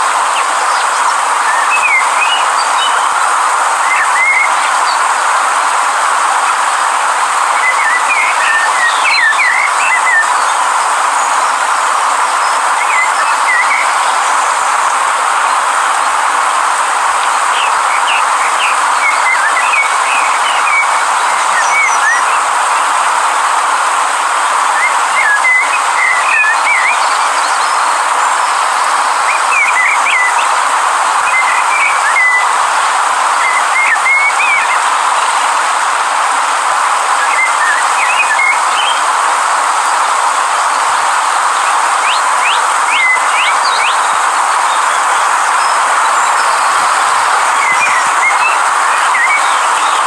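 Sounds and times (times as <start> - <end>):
river rushing: 0.0 - 50.0.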